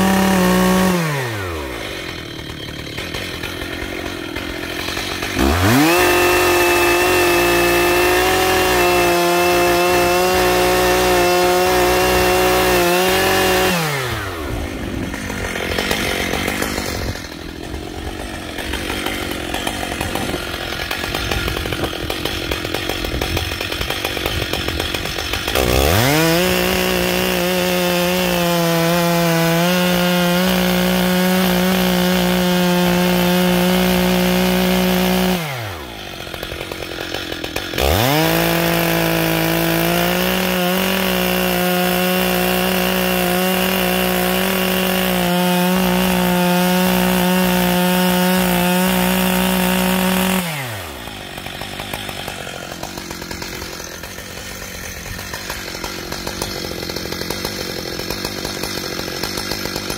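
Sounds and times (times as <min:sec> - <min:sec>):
chainsaw cutting log: 0:00.0 - 0:59.9
chainsaw idling: 0:00.0 - 0:59.9.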